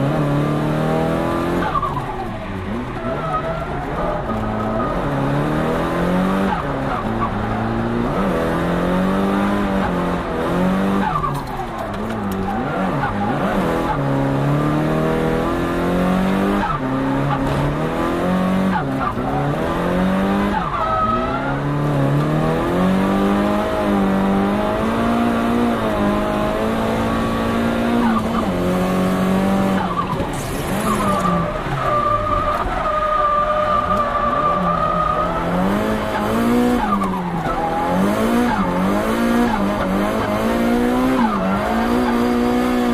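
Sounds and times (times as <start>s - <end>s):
turbocharged car engine accelerating: 0.0s - 42.9s.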